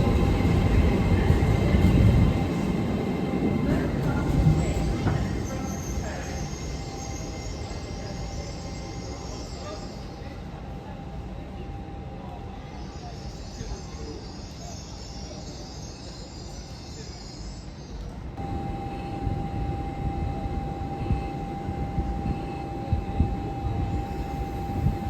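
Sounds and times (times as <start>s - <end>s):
train rumble with hiss: 0.0s - 25.0s
train rumble with whine: 0.0s - 25.0s.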